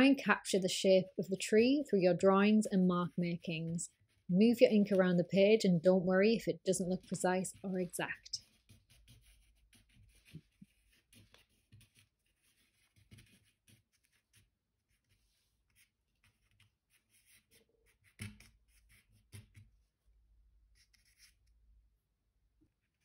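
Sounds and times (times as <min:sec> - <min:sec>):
twig scratching on paper: 0:01.1 - 0:05.6, 0:06.6 - 0:19.7, 0:20.7 - 0:21.5.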